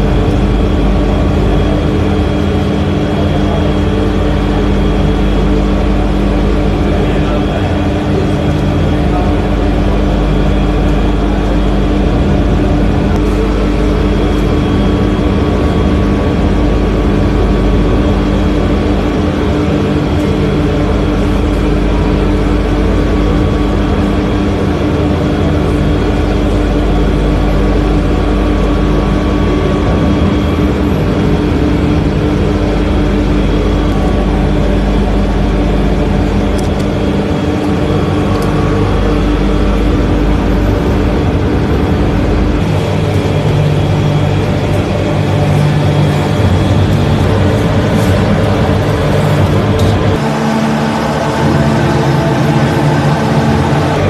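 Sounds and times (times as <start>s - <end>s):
kitchen machinery drone: 0.0s - 54.0s.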